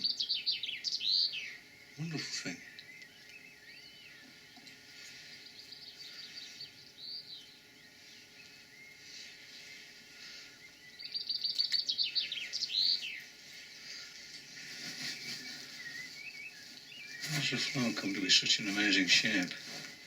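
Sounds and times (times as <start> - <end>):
faint outdoor background noise: 0.0 - 20.0
songbird singing: 0.0 - 20.0.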